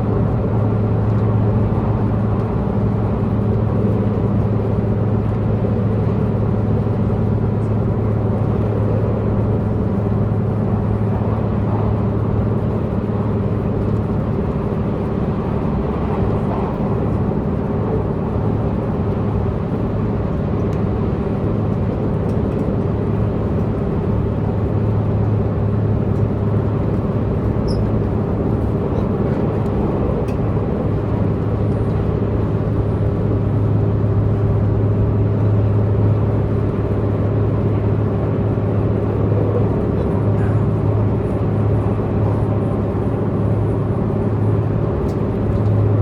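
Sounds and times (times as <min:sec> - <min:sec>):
diesel engine low drone: 0:00.0 - 0:46.0
train rail and running noise: 0:00.0 - 0:46.0.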